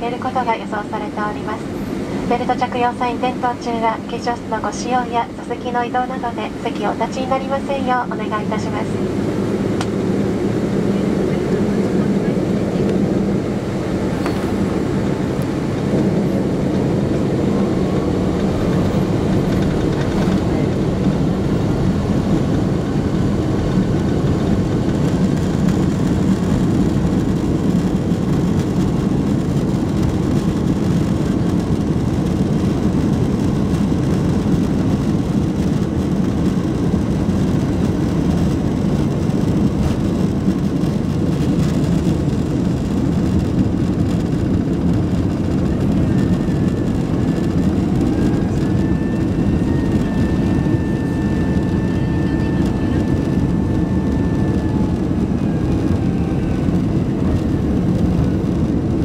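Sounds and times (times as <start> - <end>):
airframe rumble: 0.0 - 59.0
jet engines at takeoff thrust: 0.0 - 59.0.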